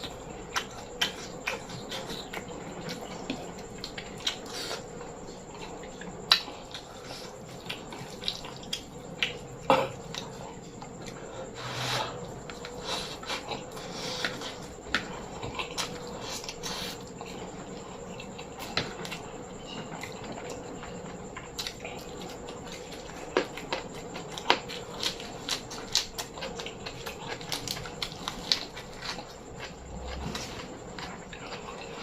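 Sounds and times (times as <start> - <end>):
person chewing and smacking: 0.0 - 4.9, 5.5 - 11.2, 12.1 - 32.0
crunchy clicks while eating: 0.0 - 32.0.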